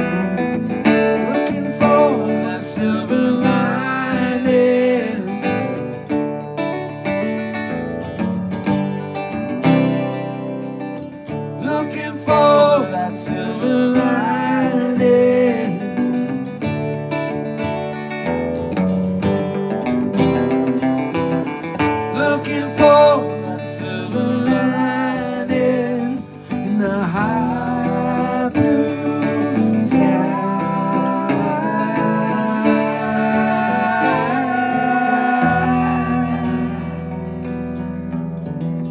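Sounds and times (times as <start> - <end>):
acoustic guitar chords: 0.0 - 38.9
electric guitar lead: 0.0 - 38.9.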